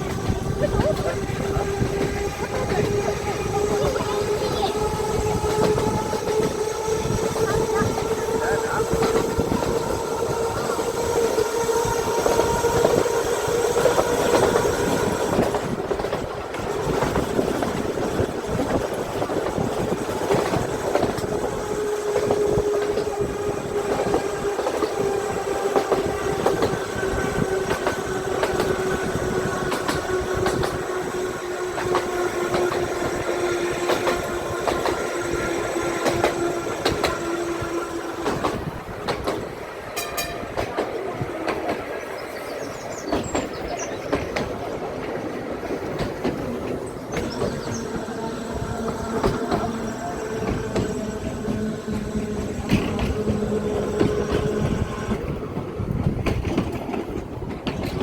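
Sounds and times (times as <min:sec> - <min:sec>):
electric tram rumbling on track: 0:00.0 - 0:58.0
rail clicks: 0:00.0 - 0:58.0
tram motor whine: 0:00.0 - 0:58.0.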